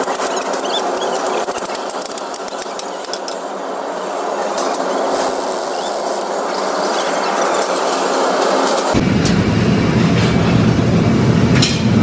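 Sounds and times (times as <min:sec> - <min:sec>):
workshop machine noise: 0:00.0 - 0:12.0.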